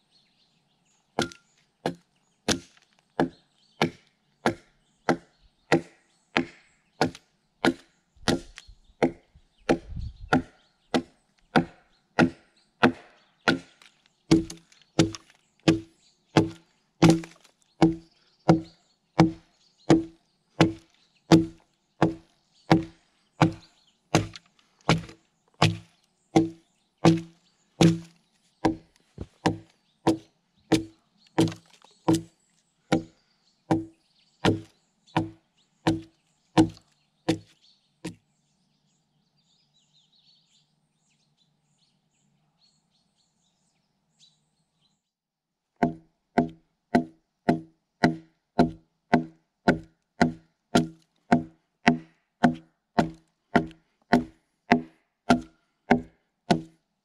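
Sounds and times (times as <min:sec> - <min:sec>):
axe chopping wood: 0:01.2 - 0:33.1, 0:33.7 - 0:38.2, 0:45.8 - 0:56.8.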